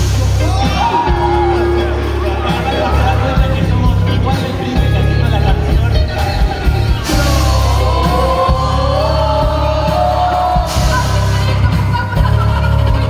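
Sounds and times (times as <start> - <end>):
crowd yelling: 0.0 - 12.9
live concert music with vocals: 0.0 - 13.0.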